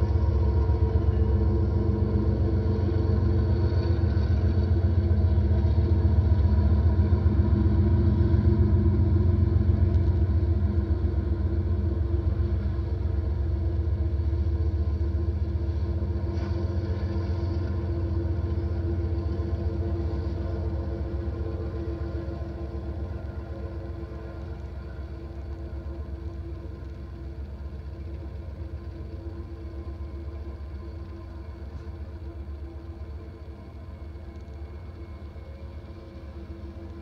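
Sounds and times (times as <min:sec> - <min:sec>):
diesel locomotive passing: 0:00.0 - 0:37.0.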